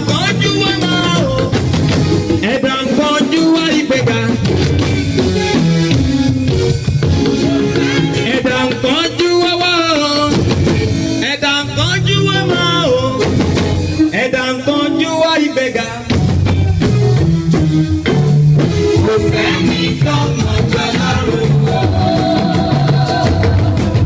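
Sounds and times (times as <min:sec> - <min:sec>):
drum kit steady beat: 0:00.0 - 0:14.4, 0:15.8 - 0:24.0
held bass notes: 0:00.0 - 0:24.0
live band music: 0:00.0 - 0:24.0.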